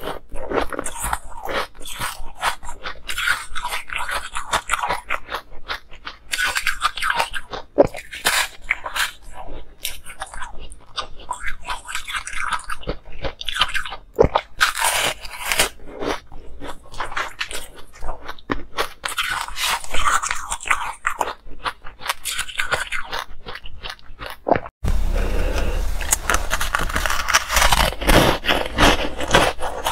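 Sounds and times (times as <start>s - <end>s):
person crunching ice: 0.0s - 29.9s.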